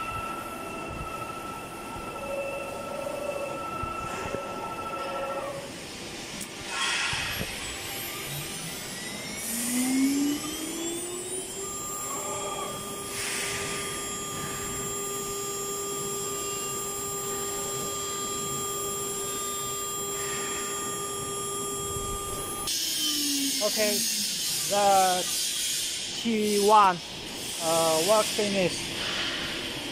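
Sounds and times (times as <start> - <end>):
router spindle whine: 0.0 - 25.7.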